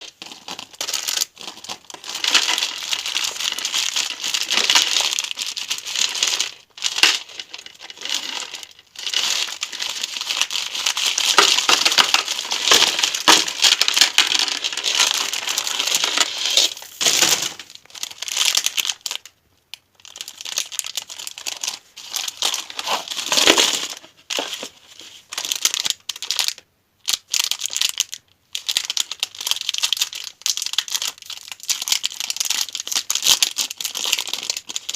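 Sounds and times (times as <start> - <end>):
wrappers crinkling: 0.0 - 19.3, 20.0 - 34.9.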